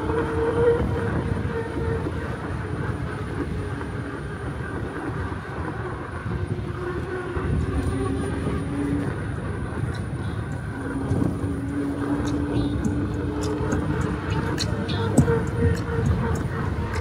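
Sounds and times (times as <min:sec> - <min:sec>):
rolling road noise: 0:00.0 - 0:17.0
wind rushing over microphone: 0:00.0 - 0:17.0.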